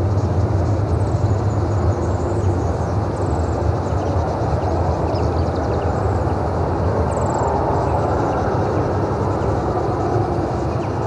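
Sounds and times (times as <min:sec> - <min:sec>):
jet engines roaring at takeoff: 0:00.0 - 0:11.0.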